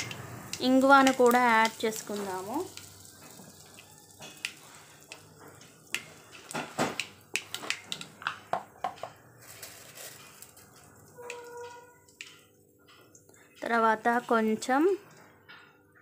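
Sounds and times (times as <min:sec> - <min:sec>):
faint oil sizzle: 0:00.0 - 0:08.6, 0:09.2 - 0:15.0
seeds popping in hot oil: 0:00.0 - 0:15.0.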